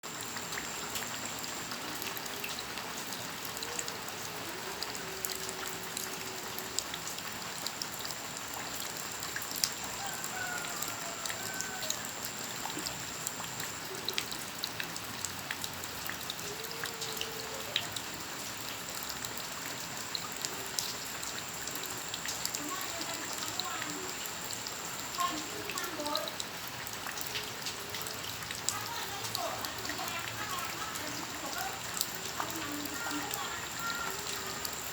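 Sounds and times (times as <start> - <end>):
steady rain: 0.0 - 34.9
water drops dripping close by: 0.1 - 34.9.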